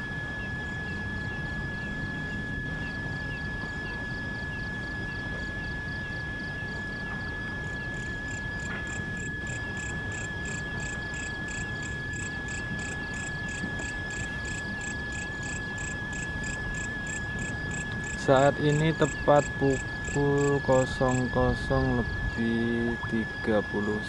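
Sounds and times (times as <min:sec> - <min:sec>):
insects trilling and chirping: 0:00.0 - 0:24.0.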